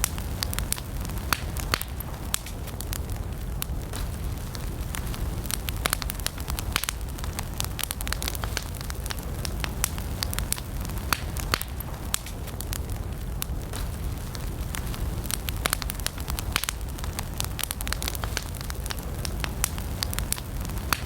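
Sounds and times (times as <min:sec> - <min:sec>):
campfire burning: 0:00.0 - 0:21.0.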